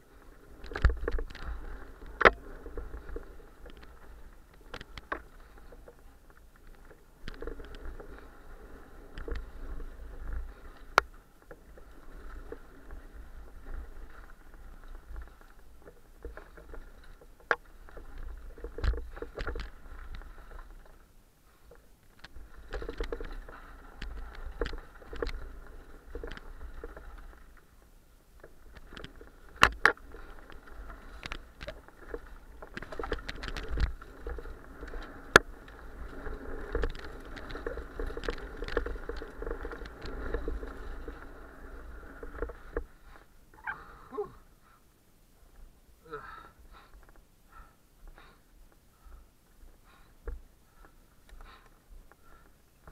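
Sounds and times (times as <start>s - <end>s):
bike tyres rattling over dirt: 0.0s - 44.5s, 45.4s - 52.9s.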